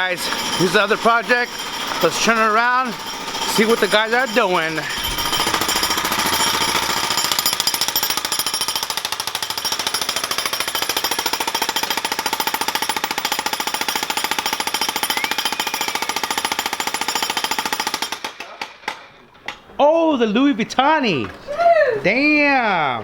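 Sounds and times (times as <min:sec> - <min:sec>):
jackhammer pounding concrete: 0:00.0 - 0:19.0.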